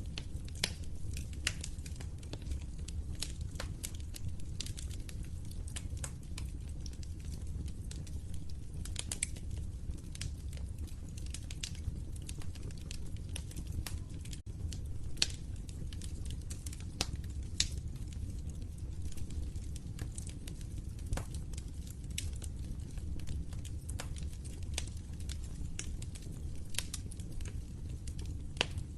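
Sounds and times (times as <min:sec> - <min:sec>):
burning wood popping and snapping: 0:00.0 - 0:28.9
low rumble of flames: 0:00.0 - 0:28.9.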